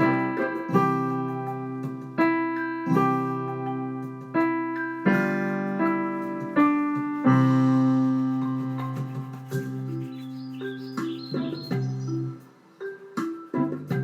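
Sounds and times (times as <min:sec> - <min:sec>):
slow piano chords: 0:00.0 - 0:13.8.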